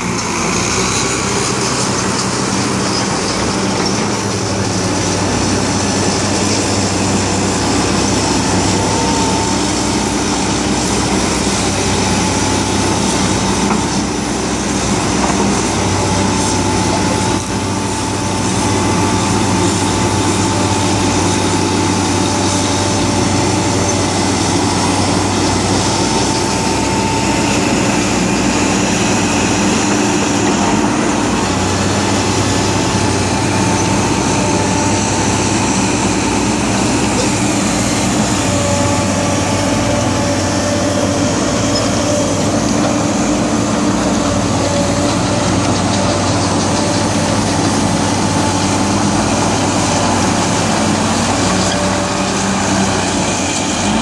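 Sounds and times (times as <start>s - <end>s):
diesel engines droning: 0.0s - 54.0s
steady whine: 0.0s - 54.0s.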